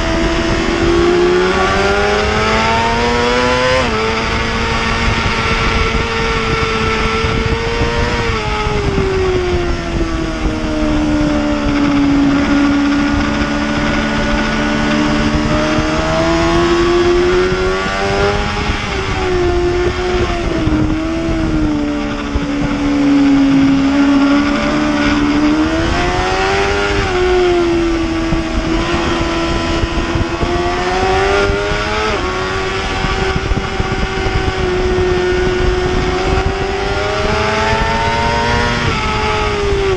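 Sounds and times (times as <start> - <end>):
racing motorcycle engine: 0.0 - 39.9
wind noise: 0.0 - 39.9.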